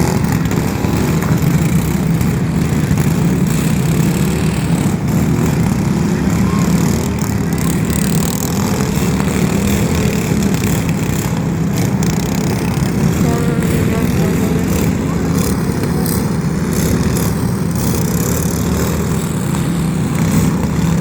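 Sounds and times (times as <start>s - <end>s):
loud engine running: 0.0s - 21.0s.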